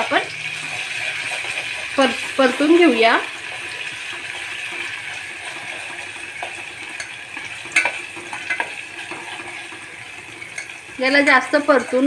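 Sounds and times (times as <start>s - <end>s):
paste sizzling in hot oil: 0.0s - 12.0s
metal spoon scraping pot: 0.5s - 2.6s, 3.4s - 12.0s.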